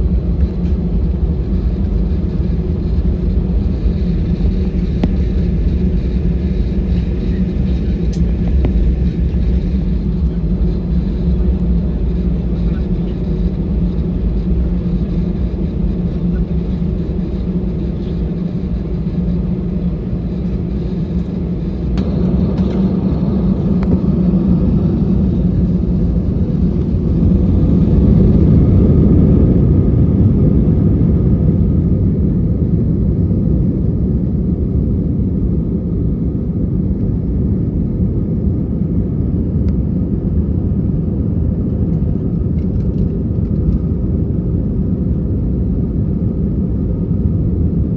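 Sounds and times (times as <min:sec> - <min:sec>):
airplane cabin engine rumble: 0:00.0 - 0:47.9.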